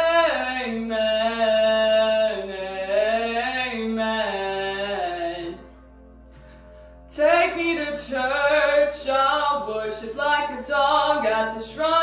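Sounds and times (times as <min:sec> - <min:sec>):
woman singing with vibrato: 0:00.0 - 0:05.6, 0:07.1 - 0:12.0.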